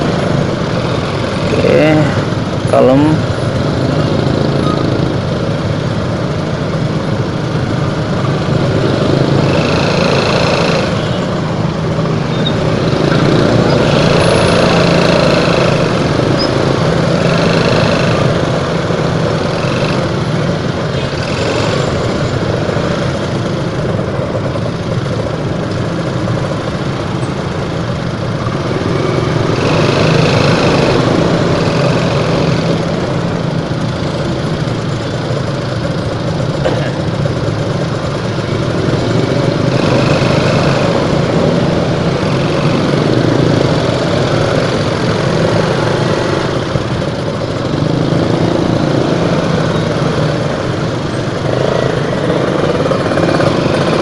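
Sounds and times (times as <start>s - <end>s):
motorcycle engines idling in traffic: 0.0s - 54.0s.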